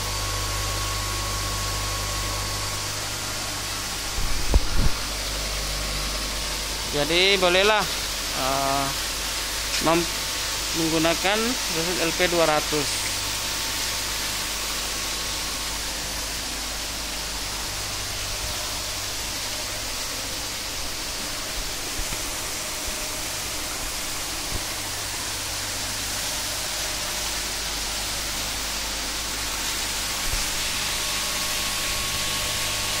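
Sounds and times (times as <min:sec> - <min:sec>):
low air pump hum: 0:00.0 - 0:33.0.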